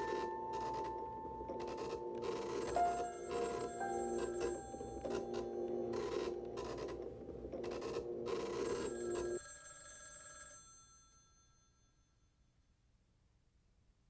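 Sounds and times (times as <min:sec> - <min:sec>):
telephone bell ringing: 0:00.0 - 0:12.1.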